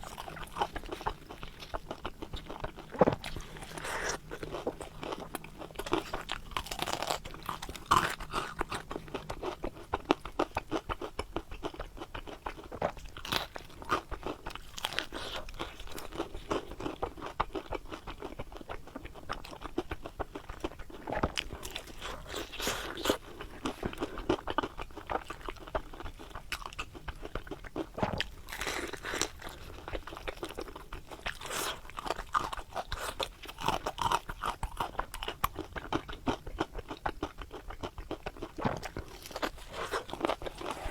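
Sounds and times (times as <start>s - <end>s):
crunchy chewing of fried food: 0.0s - 40.9s.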